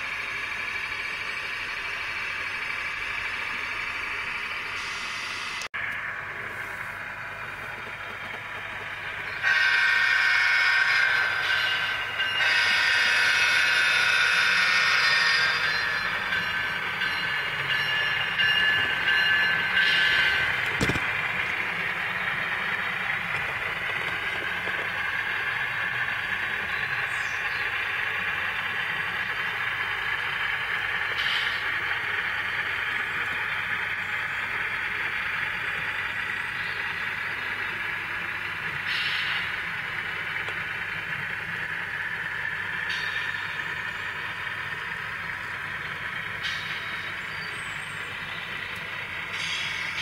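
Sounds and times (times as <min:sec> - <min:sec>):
diesel engine sound effect: 0:00.0 - 0:50.0
model train cars rolling: 0:00.0 - 0:50.0.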